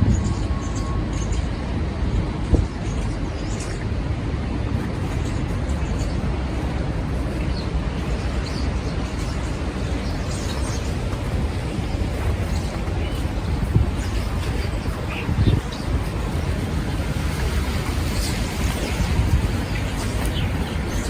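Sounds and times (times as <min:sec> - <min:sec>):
traffic rumble: 0:00.0 - 0:21.0
wind noise: 0:00.0 - 0:21.0.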